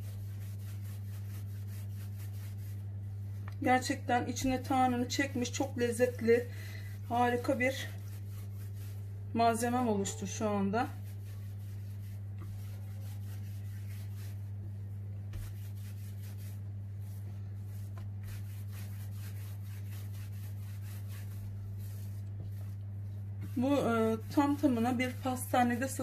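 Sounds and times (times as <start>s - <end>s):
hands rolling dough on countertop: 0.0s - 26.0s
steady low hum: 0.0s - 26.0s.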